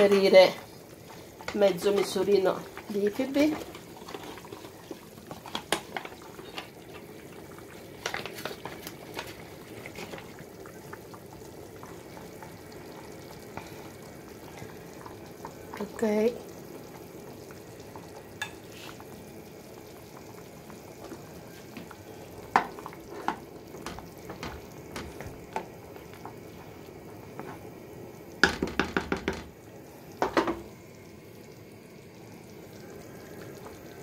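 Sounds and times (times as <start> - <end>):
sauce simmering in a pan: 0.0 - 34.0.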